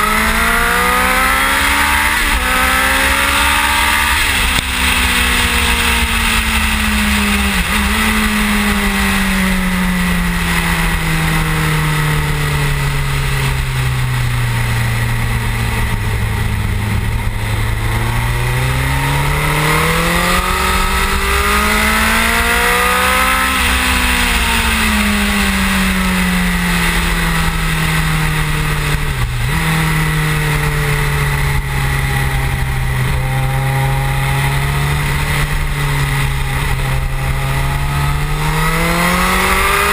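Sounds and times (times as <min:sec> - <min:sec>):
motorcycle engine at speed: 0:00.0 - 0:39.9
wind rush: 0:00.9 - 0:39.9.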